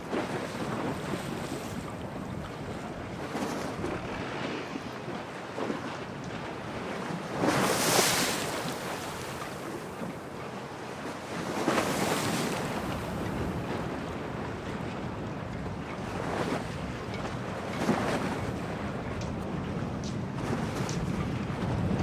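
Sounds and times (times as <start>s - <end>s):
storm wind: 0.0s - 10.3s, 11.8s - 22.0s
sea waves: 0.0s - 22.0s.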